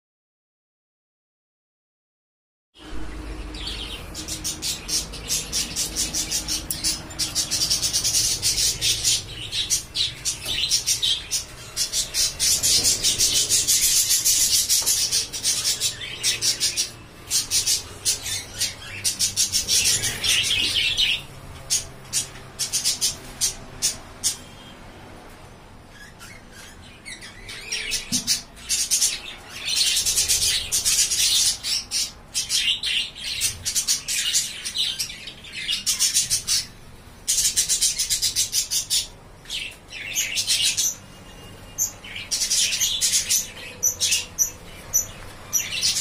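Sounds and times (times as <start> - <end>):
budgerigars chattering: 3.5 - 24.5, 26.0 - 46.0.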